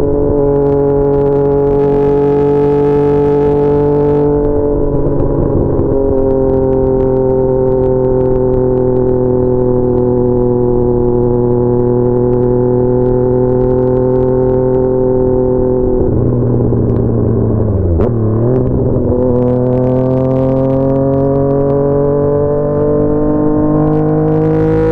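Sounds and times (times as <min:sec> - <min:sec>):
motorcycle engine: 0:00.0 - 0:24.9.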